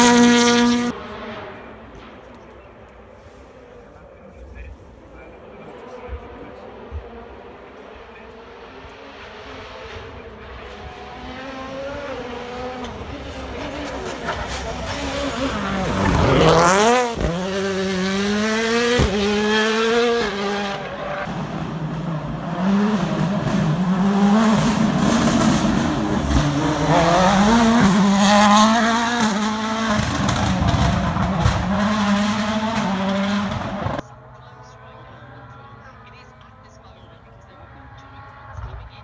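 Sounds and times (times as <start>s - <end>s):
rally car engines accelerating: 0.0s - 39.0s.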